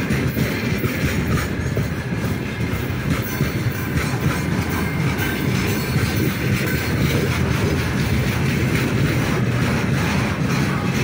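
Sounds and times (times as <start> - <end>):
freight train rumbling past: 0.0 - 11.0
steel wheels clattering on rails: 0.0 - 11.0.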